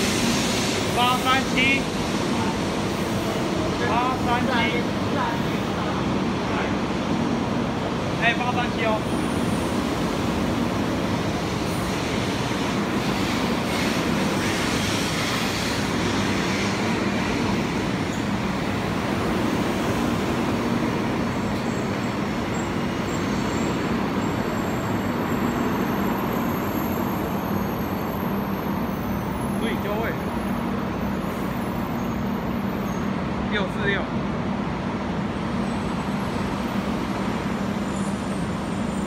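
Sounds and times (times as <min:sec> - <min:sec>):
train rolling past: 0:00.0 - 0:39.0.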